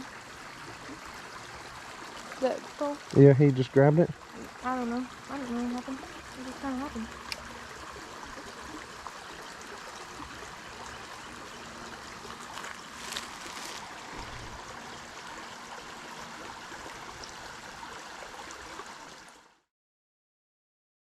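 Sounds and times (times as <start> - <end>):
creek water over rocks: 0.0 - 19.7.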